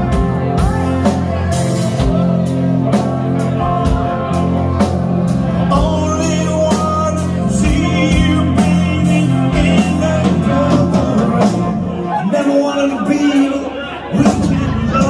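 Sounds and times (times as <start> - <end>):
drum kit slow beat: 0.0 - 12.6
person singing: 0.0 - 15.0
rock band playing: 0.0 - 15.0.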